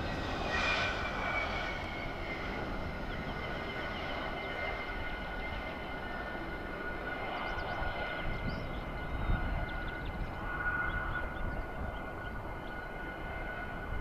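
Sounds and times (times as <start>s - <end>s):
fighter jet engine running: 0.0s - 14.0s.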